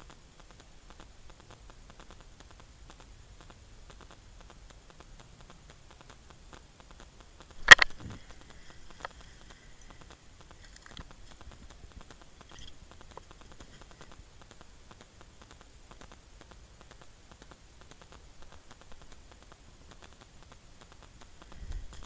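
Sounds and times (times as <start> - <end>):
faint fast crackle: 0.0 - 22.0.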